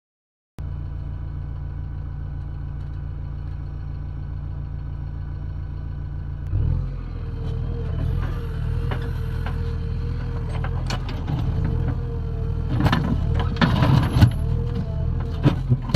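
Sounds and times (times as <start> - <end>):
diesel engine running: 0.6 - 15.9.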